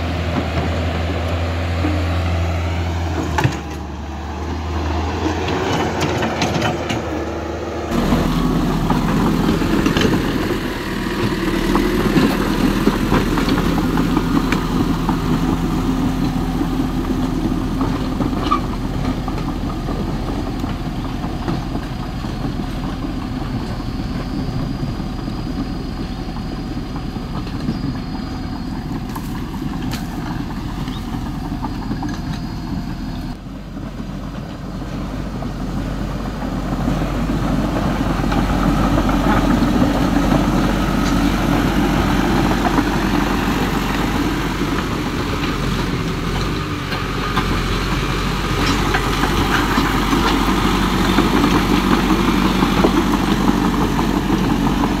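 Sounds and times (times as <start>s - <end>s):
toy bulldozer engine running: 3.5s - 55.0s.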